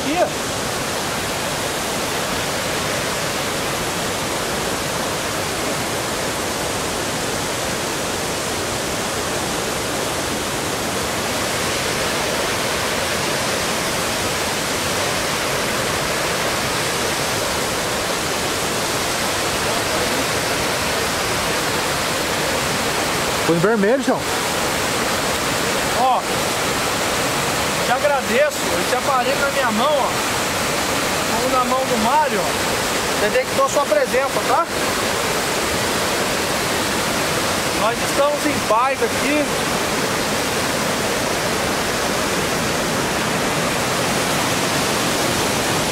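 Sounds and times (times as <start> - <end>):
waterfall and stream rushing: 0.0 - 45.9.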